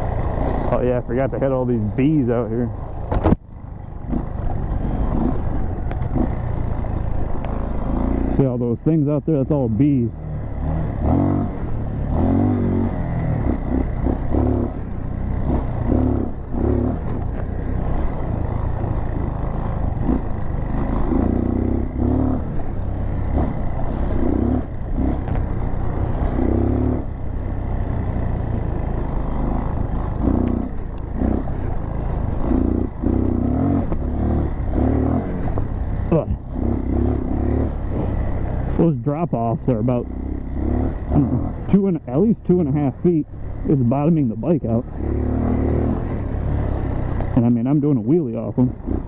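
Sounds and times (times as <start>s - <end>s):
dirt bike engine running: 0.0s - 49.0s.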